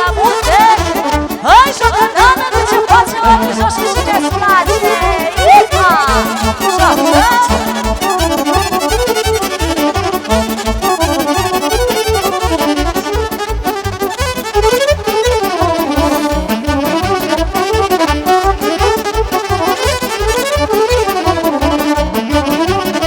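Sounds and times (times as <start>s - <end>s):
accordion fast melody: 0.0s - 23.0s
bass and drum beat: 0.0s - 23.0s.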